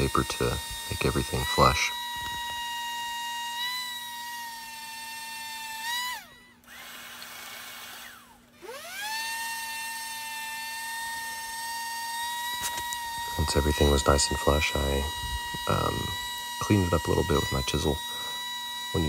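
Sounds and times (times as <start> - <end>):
power sander whining: 0.0 - 19.0.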